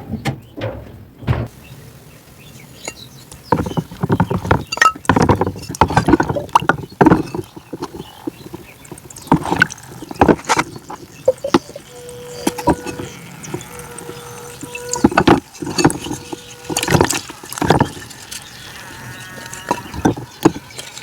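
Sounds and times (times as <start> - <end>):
dense irregular crunching: 1.5 - 21.0.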